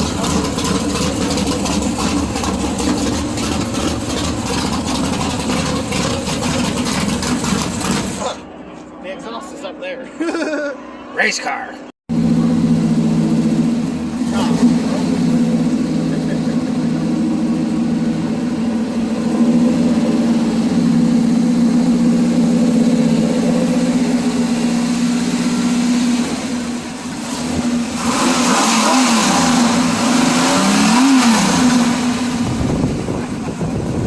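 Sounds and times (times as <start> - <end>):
car engine idling: 0.0 - 9.0, 12.1 - 34.0
engine throttle blips: 0.0 - 9.8, 12.1 - 34.0.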